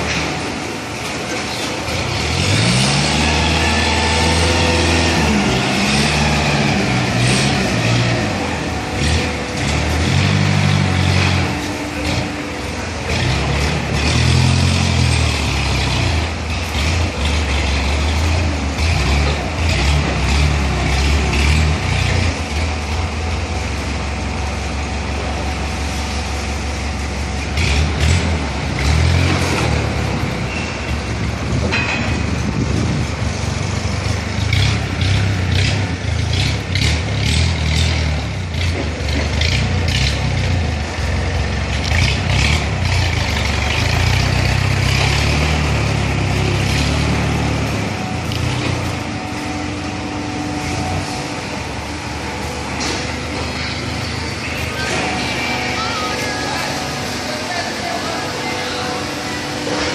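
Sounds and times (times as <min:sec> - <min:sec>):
heavy machinery drone: 0:00.0 - 0:59.9.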